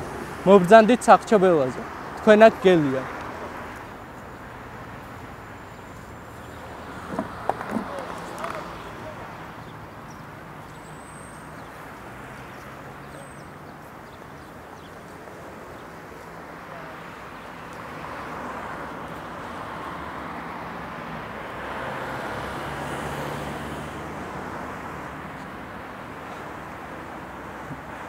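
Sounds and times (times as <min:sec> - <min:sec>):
cars passing: 0:00.0 - 0:28.0
low traffic hum: 0:00.0 - 0:28.0.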